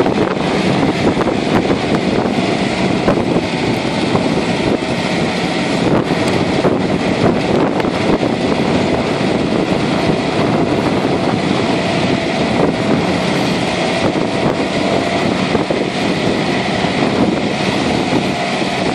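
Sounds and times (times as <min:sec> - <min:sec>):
tractor running under load: 0:00.0 - 0:18.9.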